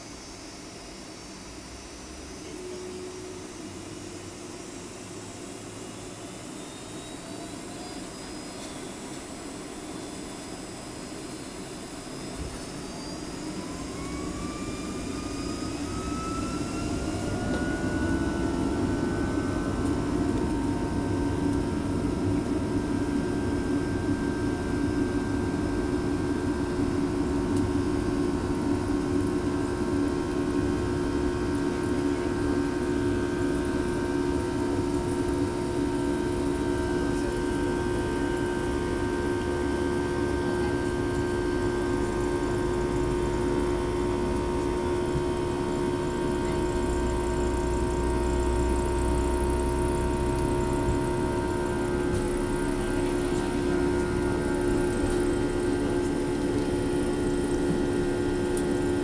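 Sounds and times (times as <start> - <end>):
jet engines whining: 2.0 - 46.6, 48.0 - 59.0.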